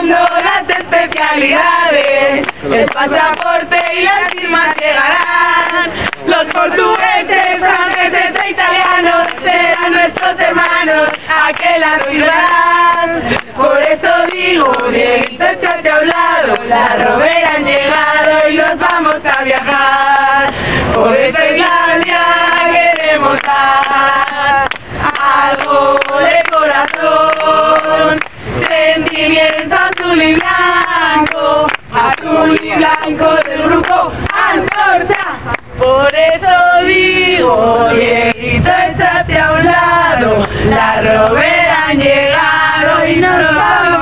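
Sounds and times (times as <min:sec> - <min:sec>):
group singing in chorus: 0:00.0 - 0:44.0.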